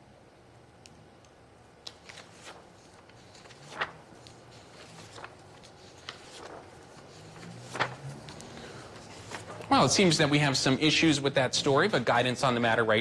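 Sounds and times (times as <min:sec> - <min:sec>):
paper rustling: 0:01.8 - 0:12.8.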